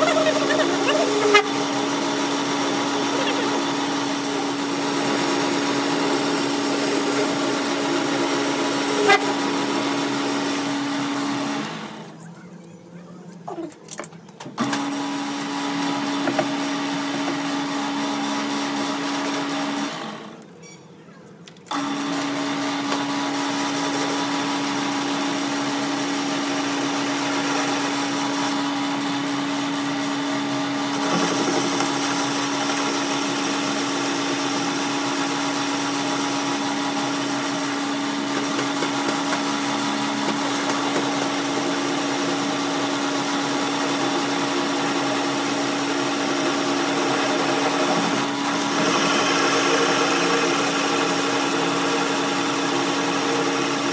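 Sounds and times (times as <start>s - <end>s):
electric motor humming: 0.0s - 12.2s, 21.8s - 53.9s.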